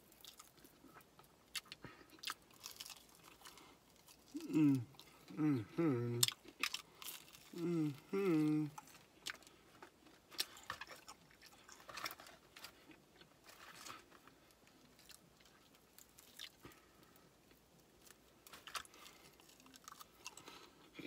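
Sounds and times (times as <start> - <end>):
chewing crispy food: 0.0 - 21.0.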